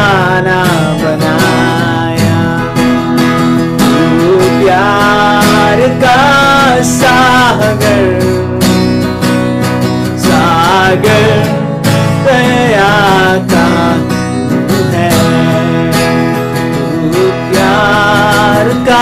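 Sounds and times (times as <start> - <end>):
man singing worship song: 0.0 - 8.6, 10.1 - 19.0
strummed acoustic guitar: 0.0 - 19.0.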